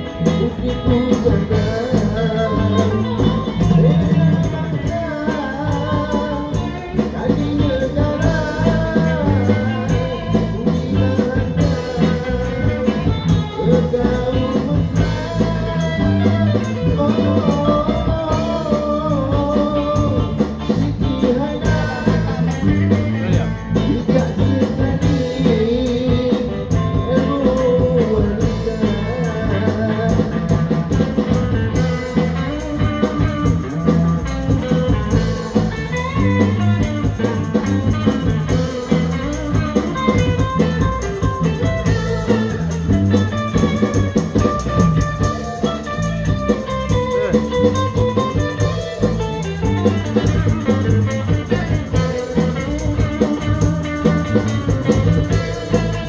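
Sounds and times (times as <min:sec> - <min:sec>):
live pop band playing: 0:00.0 - 0:56.0
plucked guitars: 0:00.0 - 0:56.0
rattling percussion: 0:00.0 - 0:56.0.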